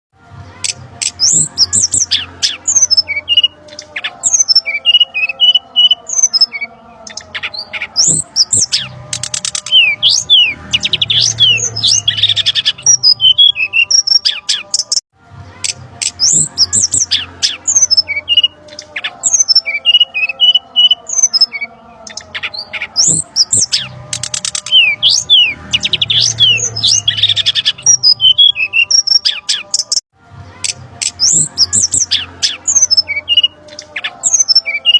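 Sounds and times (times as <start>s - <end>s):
bird chirps trills and whistles: 1.0s - 15.0s, 16.0s - 30.0s, 31.0s - 34.9s.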